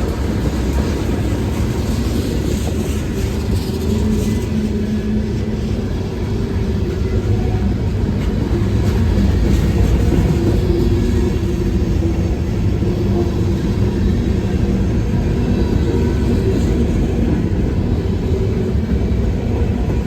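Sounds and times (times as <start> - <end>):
diesel freight train rumble: 0.0 - 20.0.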